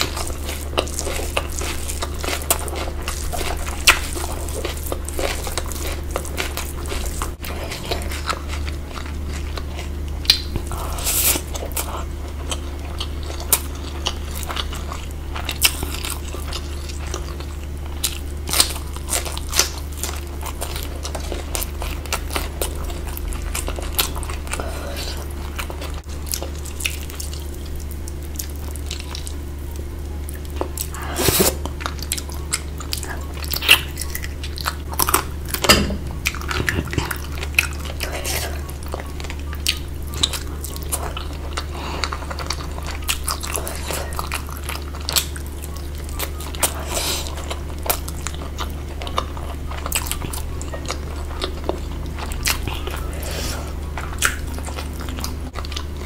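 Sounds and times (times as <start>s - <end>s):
crunchy chewing: 0.0s - 56.0s
steady low hum: 0.0s - 56.0s.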